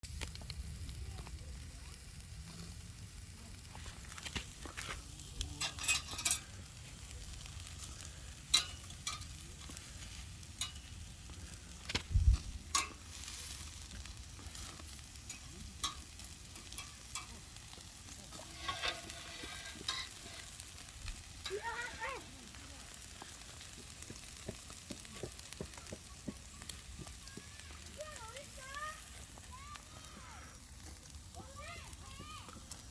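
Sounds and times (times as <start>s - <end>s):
fire popping and crackling: 0.0s - 32.9s
meat sizzling on grill: 0.0s - 32.9s.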